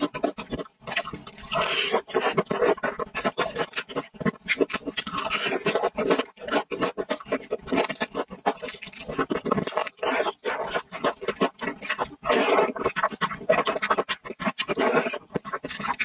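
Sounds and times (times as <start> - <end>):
crunching fried chicken: 0.0 - 16.0.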